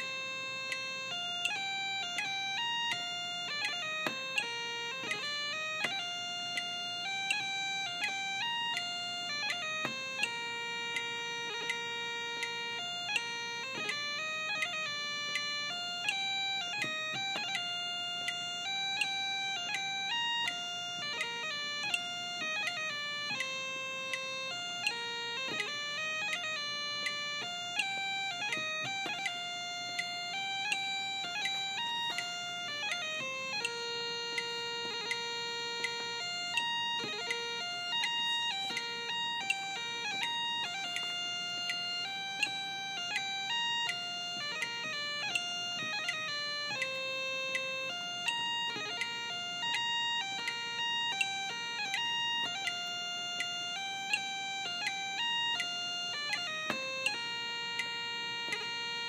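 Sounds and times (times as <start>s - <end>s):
electronic practice chanter tune: 0.0s - 59.0s.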